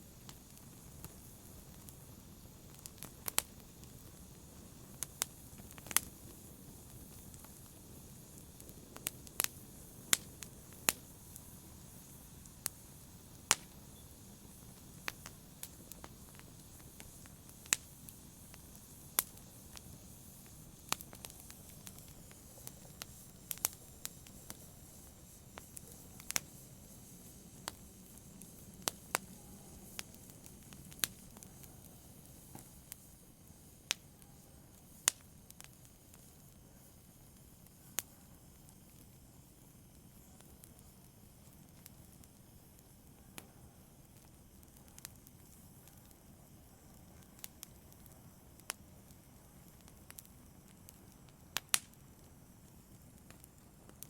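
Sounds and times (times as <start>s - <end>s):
faint low hiss: 0.0s - 54.0s
fire crackling and popping: 0.0s - 54.0s.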